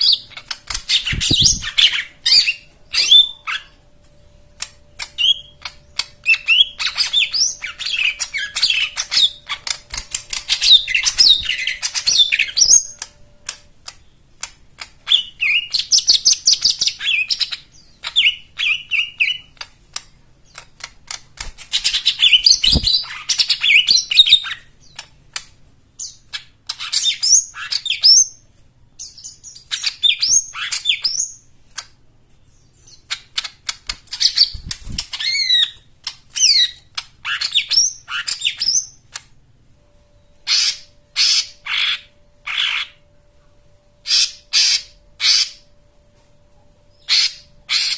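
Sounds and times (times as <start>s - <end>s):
small bird singing: 0.0s - 39.4s, 40.0s - 43.2s, 43.9s - 45.8s, 46.8s - 47.9s.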